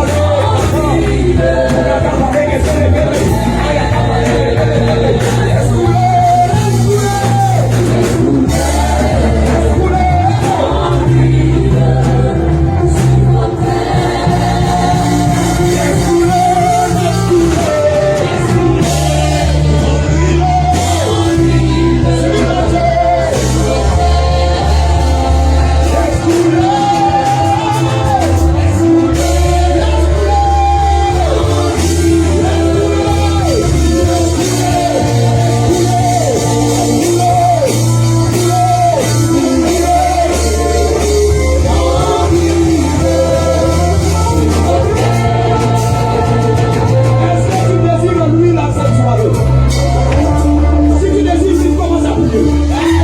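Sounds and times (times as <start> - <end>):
electric bass and guitar chords: 0.0 - 53.0.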